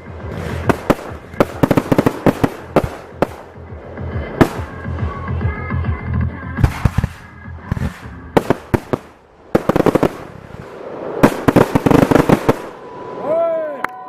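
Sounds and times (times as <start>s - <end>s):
fireworks bangs: 0.1s - 5.2s, 6.6s - 13.2s.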